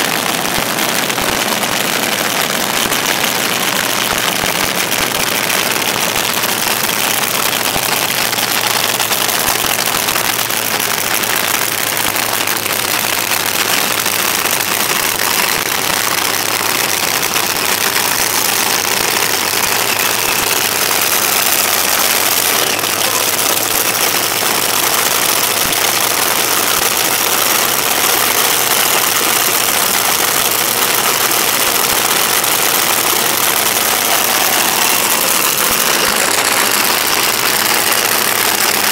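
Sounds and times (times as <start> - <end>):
dragster engines idling loud: 0.0 - 38.9.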